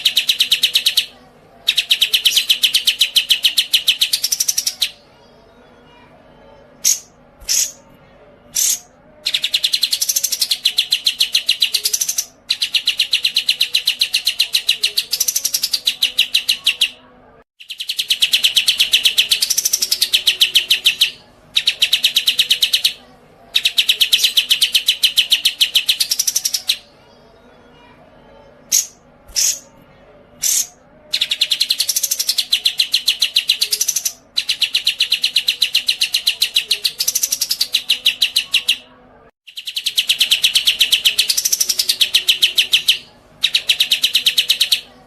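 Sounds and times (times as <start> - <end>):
songbird chirping and trilling: 0.0 - 45.0.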